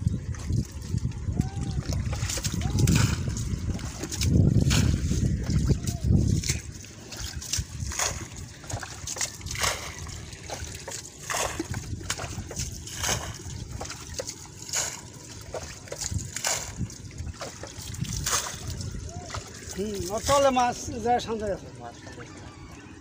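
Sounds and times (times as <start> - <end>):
splashing in muddy water: 0.0 - 23.0.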